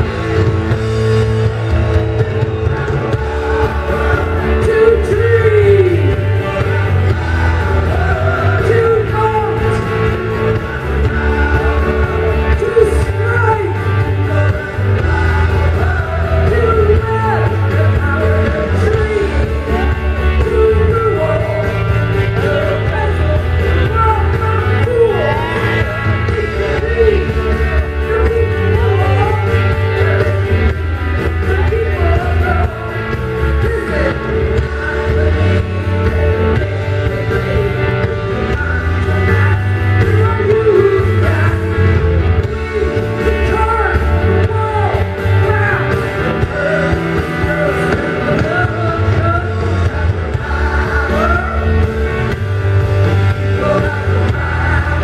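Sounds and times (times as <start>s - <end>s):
bass guitar: 0.0s - 55.0s
electric guitars: 0.0s - 55.0s.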